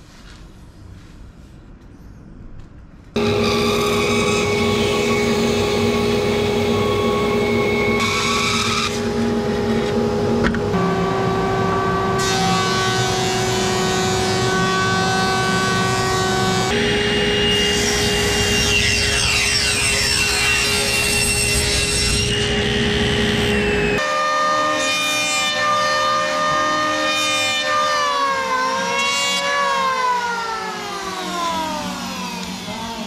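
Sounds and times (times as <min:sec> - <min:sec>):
bandsaw cutting wood: 0:03.2 - 0:33.0.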